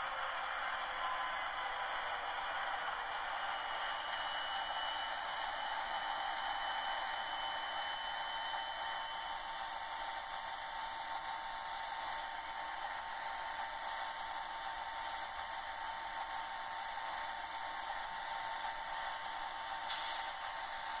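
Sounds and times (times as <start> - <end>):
model train diesel engine drone: 0.0 - 21.0.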